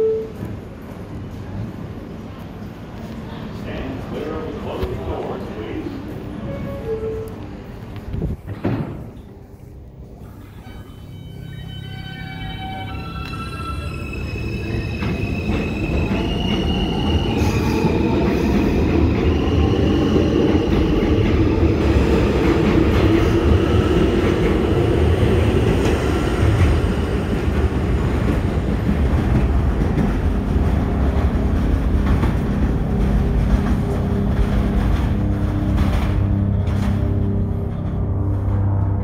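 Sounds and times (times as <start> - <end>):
subway train rumbling on rails: 0.0 - 39.0.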